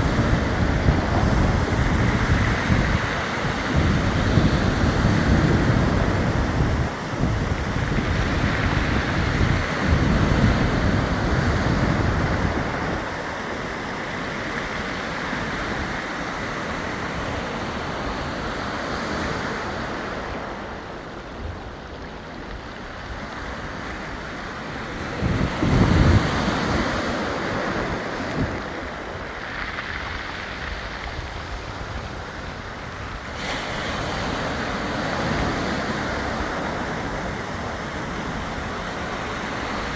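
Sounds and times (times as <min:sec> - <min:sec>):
waves rolling pebbles: 0:00.0 - 0:39.9
wind buffeting microphone: 0:00.0 - 0:39.9.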